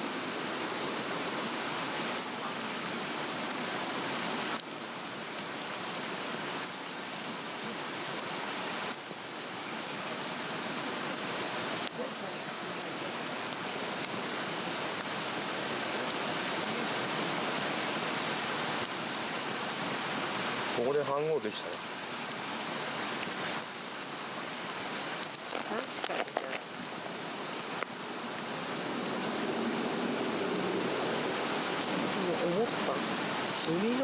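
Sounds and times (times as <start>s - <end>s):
fire crackling: 0.0s - 34.0s
stream rushing: 0.0s - 34.0s.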